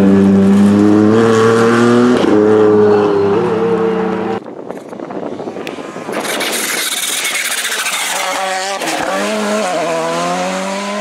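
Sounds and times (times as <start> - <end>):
rally car passing and accelerating: 0.0 - 11.0.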